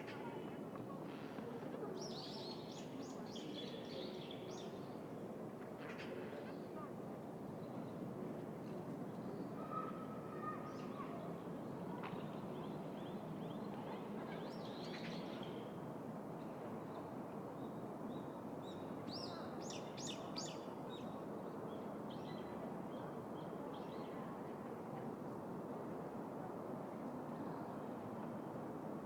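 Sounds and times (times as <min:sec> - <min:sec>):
low hum of city: 0:00.0 - 0:29.0.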